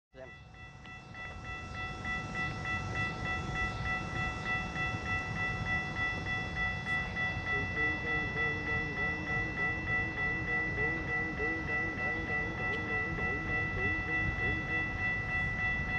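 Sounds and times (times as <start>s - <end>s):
railroad warning bell ringing: 0.1s - 15.9s
train rumble: 0.2s - 15.9s.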